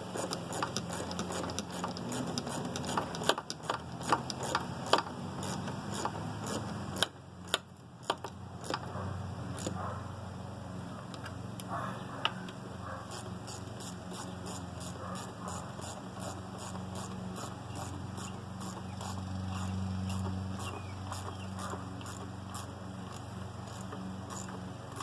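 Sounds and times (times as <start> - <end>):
hand ratchet clicking: 0.0 - 8.8, 9.6 - 9.8, 13.1 - 25.0.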